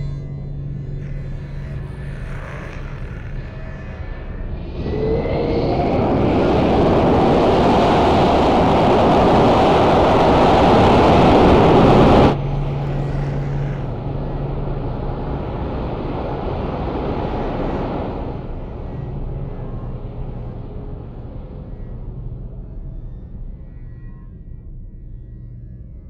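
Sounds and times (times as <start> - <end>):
low rumble with hum: 0.0 - 26.0
spaceship engines rushing: 0.0 - 26.0.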